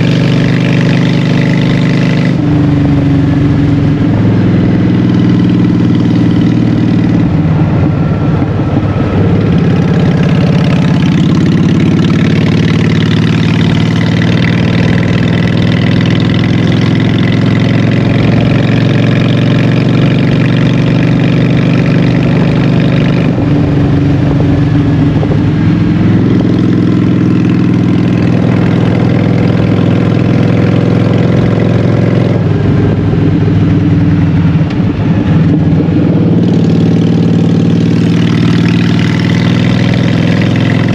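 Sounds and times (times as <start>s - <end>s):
motorcycle engine running loud: 0.0s - 40.9s.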